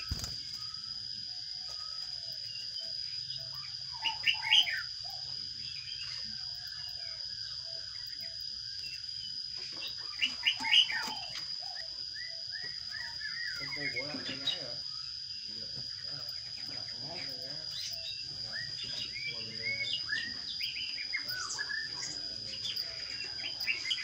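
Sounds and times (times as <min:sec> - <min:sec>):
sparrows chirping: 0:00.0 - 0:24.0.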